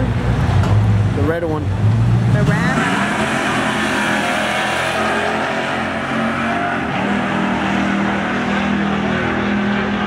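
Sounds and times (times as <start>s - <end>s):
truck engines accelerating hard: 0.0s - 10.0s.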